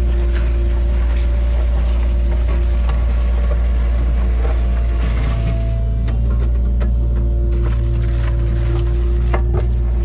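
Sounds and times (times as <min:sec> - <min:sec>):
excavator diesel engine running: 0:00.0 - 0:10.0
steady whine: 0:00.0 - 0:10.0.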